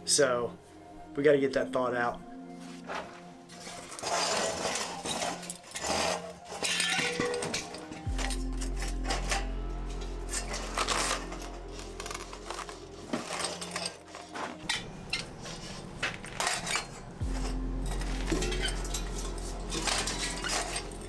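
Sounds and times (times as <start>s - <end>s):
background music with low bass: 0.0s - 21.0s
hard objects clattering: 2.6s - 21.0s.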